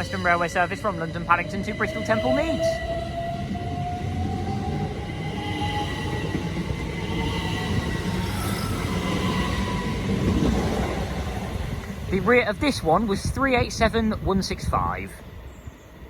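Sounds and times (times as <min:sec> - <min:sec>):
wheels rumbling on rails: 0:00.0 - 0:16.0.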